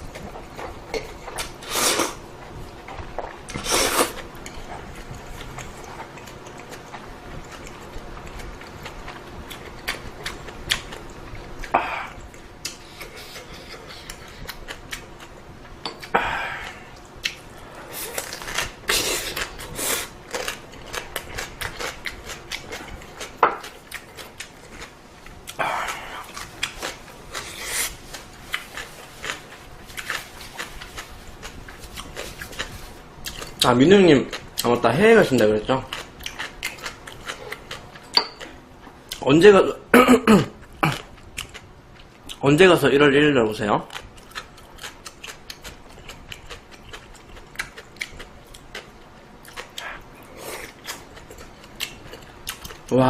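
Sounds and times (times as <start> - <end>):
person chewing: 0.0 - 34.8, 35.8 - 39.2, 40.6 - 42.4, 43.9 - 52.9.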